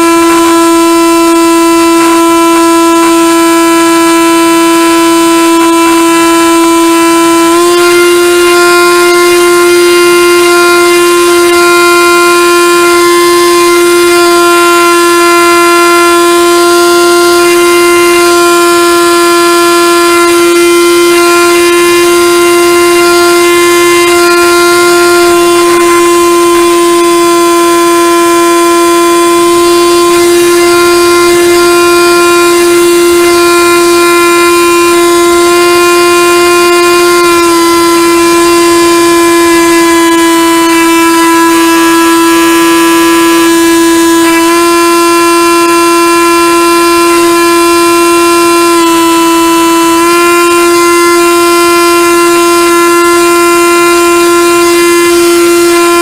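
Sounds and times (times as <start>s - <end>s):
model aircraft motor and propeller: 0.0s - 56.0s.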